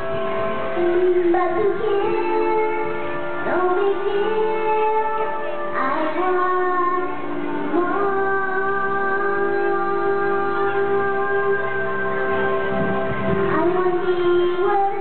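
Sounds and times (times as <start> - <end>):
girl singing into a microphone: 0.7 - 12.1, 13.2 - 15.0.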